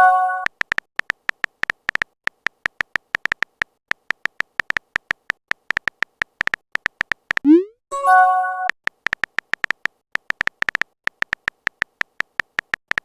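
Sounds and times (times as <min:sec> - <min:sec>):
phone keyboard typing clicks: 0:00.4 - 0:07.6, 0:08.8 - 0:13.0.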